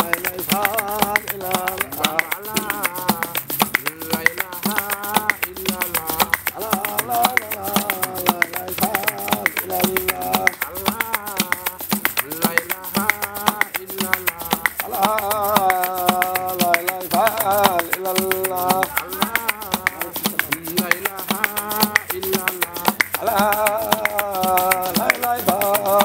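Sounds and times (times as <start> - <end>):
hand-tapped percussion clicks: 0.0 - 26.0
man singing ornamented melody: 0.0 - 26.0.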